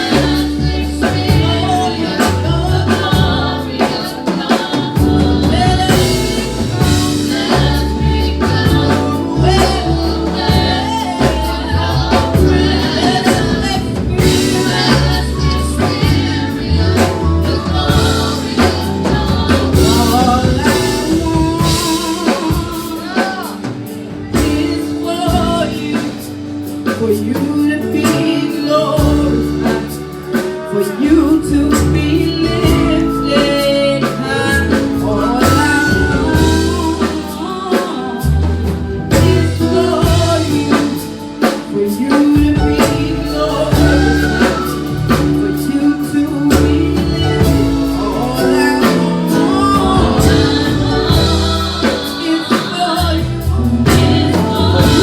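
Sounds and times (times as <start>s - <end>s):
band with bass and drums: 0.0s - 55.0s
voices singing gospel: 0.0s - 55.0s.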